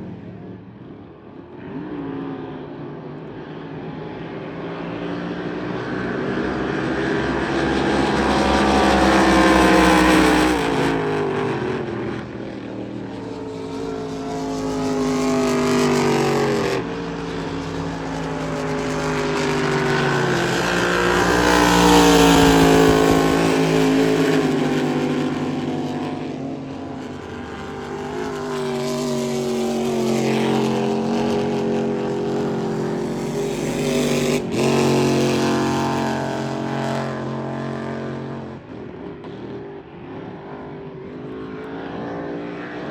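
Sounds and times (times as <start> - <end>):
racing boat engines passing: 3.4 - 39.0.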